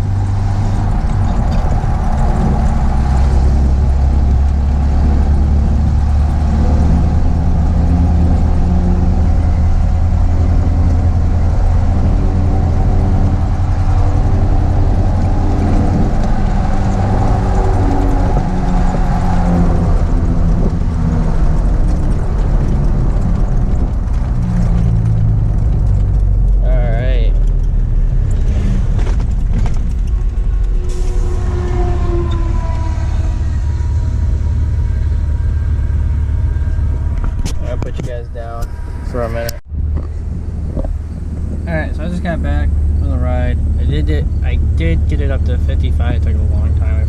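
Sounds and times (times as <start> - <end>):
tire road noise: 0.0 - 47.0
truck engine droning under load: 0.0 - 47.0.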